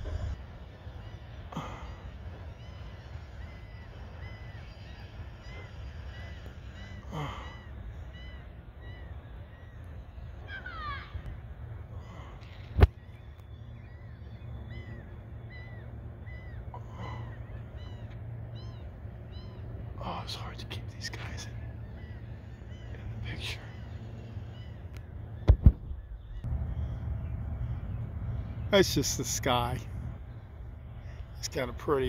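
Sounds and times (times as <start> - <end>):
gulls calling: 0.0 - 32.0.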